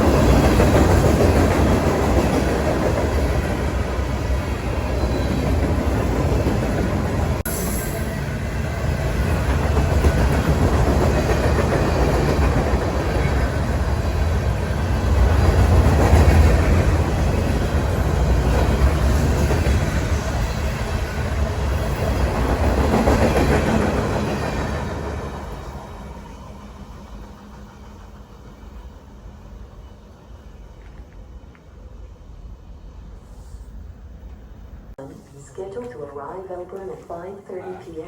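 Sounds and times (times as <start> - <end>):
clickety-clack of rails: 0.0 - 7.5, 8.1 - 32.4
train wheels rumbling on rail: 0.0 - 35.0.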